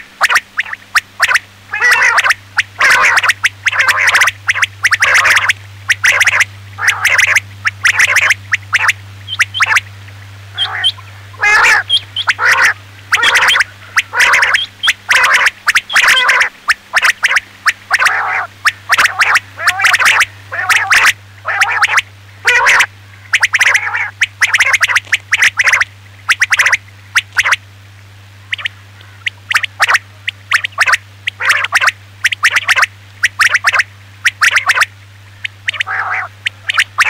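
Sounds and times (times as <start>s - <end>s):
quail calling: 0.0s - 27.6s, 28.4s - 37.0s
steady low hum: 0.0s - 37.0s.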